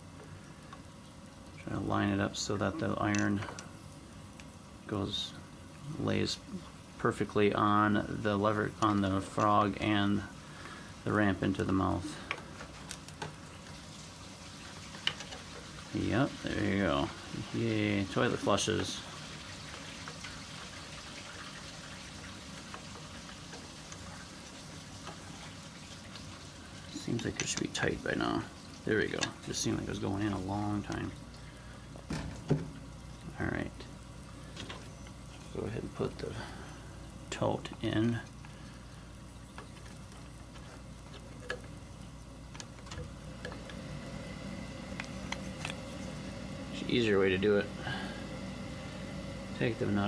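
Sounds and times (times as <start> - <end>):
low steady hum: 0.0 - 50.0
water hissing through plumbing: 0.0 - 50.0.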